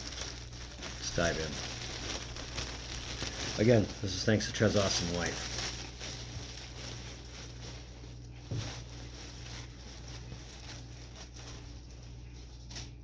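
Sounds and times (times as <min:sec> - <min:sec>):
shipping bag rustling and crinkling: 0:00.0 - 0:13.0.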